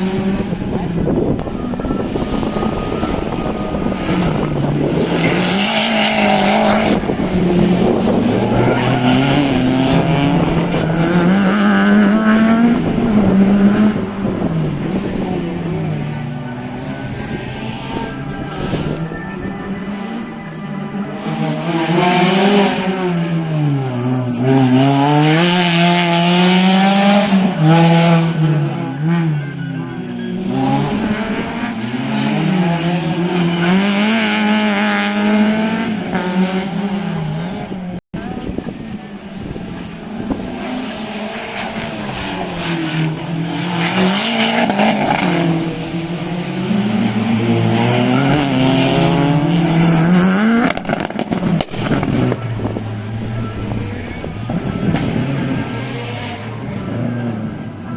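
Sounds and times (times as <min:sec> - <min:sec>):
car engine revving hard: 0:00.0 - 0:20.4, 0:21.0 - 0:57.9.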